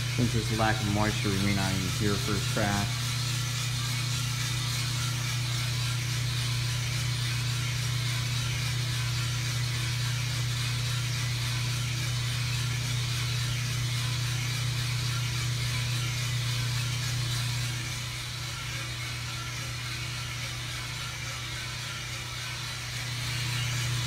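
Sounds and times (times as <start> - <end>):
fan rushing hiss: 0.0 - 24.0
motor humming: 0.0 - 24.0.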